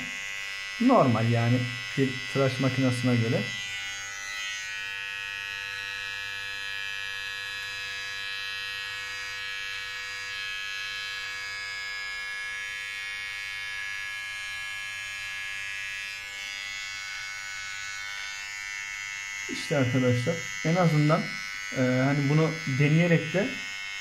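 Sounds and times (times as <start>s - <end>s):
hair trimmer buzzing: 0.0s - 24.0s.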